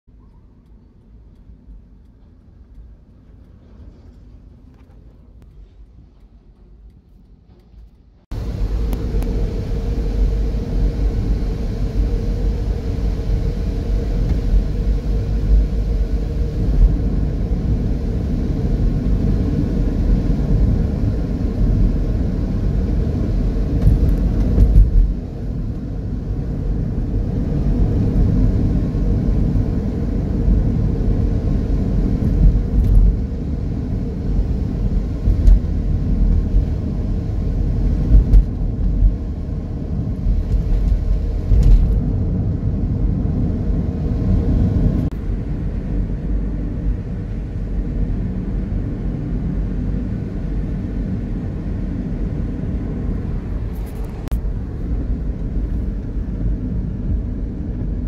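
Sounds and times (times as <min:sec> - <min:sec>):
car driving on wet road: 0:08.4 - 0:58.0.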